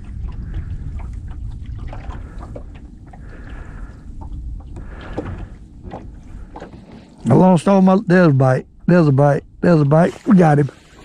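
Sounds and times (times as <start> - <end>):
boat engine low rumble: 0.0 - 11.0.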